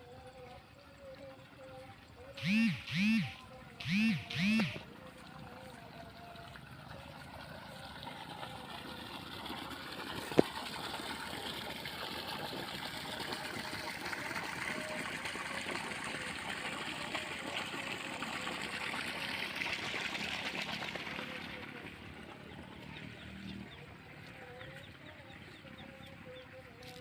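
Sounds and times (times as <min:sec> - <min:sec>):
water rushing into paddy: 0:00.4 - 0:27.0.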